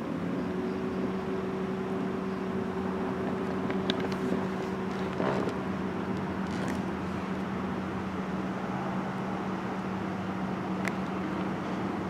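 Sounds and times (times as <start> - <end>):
mechanical hum over low rumble: 0.0 - 12.0.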